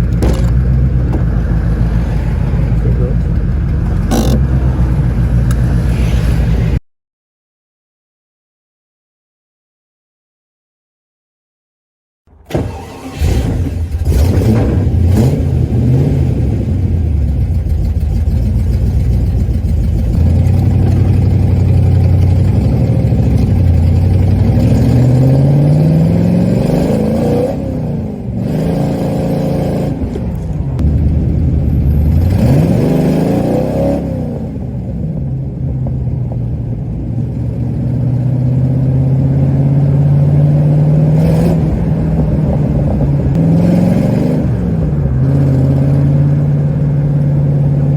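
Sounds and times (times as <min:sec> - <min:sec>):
sports car engine revving: 0:00.0 - 0:06.8, 0:12.5 - 0:36.0, 0:36.7 - 0:47.9.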